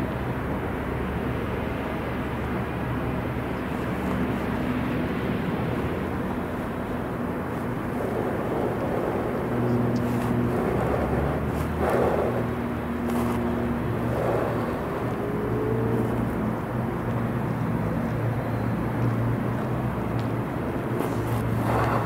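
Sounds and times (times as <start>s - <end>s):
low engine hum: 0.0s - 22.0s
outdoor background noise: 0.0s - 22.0s.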